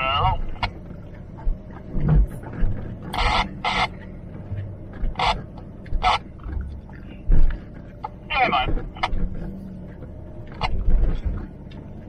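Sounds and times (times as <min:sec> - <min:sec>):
low cabin rumble with knocks: 0:00.0 - 0:12.0.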